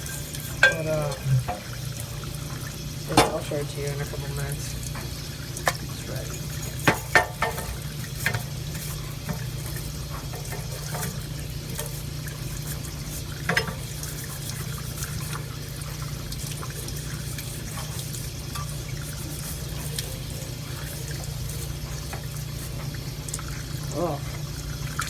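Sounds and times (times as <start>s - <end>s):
brush scrubbing rust off metal: 0.0s - 1.4s, 3.1s - 23.7s.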